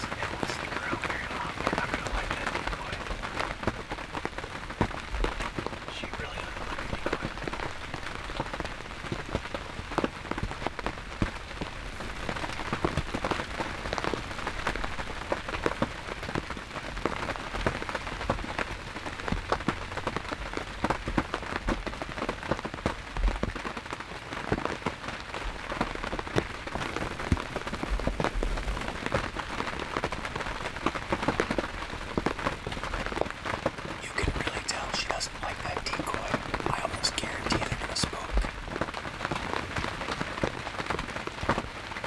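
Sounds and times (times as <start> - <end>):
rain pattering: 0.0 - 42.0.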